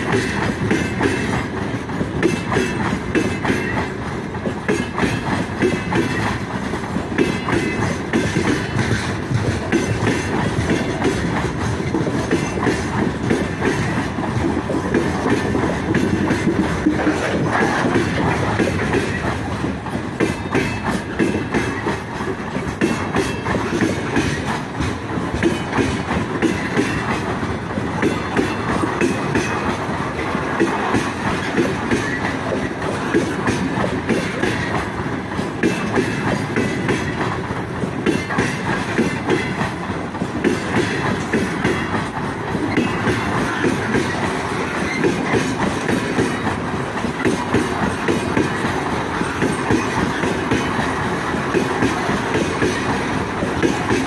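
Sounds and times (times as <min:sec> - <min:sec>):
train wheels rumbling: 0:00.0 - 0:54.0
wheels clacking over rail joints: 0:00.0 - 0:54.0.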